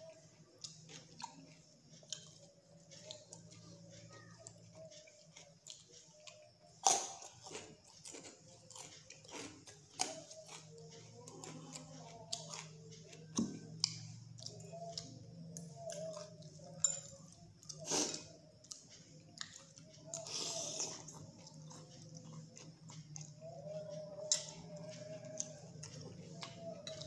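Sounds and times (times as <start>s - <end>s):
chewing crunchy food: 0.0s - 27.0s.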